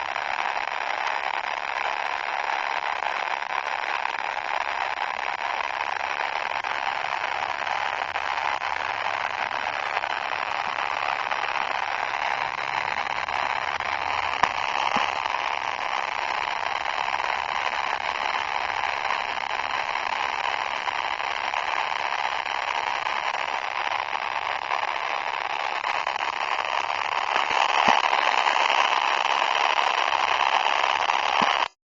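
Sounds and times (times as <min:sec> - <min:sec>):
harsh distorted crackling: 0:00.0 - 0:31.8.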